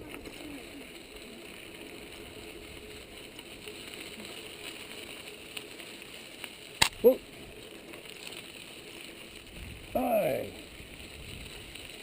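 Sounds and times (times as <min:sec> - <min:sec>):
bike freewheel hub ticking: 0:00.0 - 0:12.0.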